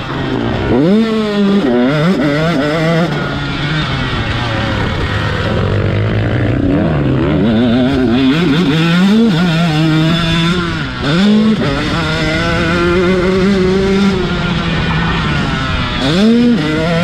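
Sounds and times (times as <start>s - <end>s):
motocross engine revving: 0.0s - 17.0s.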